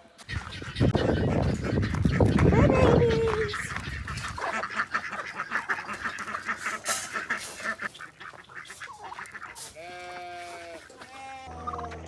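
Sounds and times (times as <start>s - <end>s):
poultry calling: 0.2s - 12.0s.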